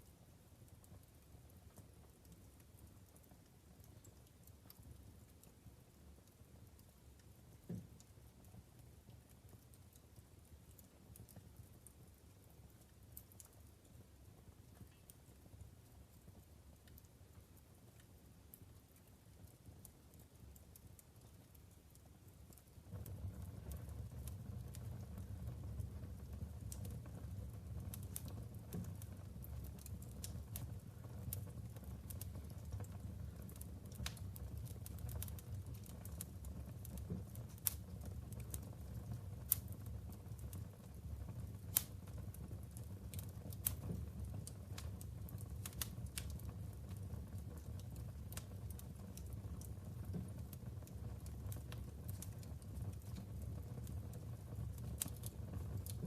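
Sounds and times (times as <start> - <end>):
fire rumbling: 0.0 - 56.0
logs crackling and popping: 0.0 - 56.0.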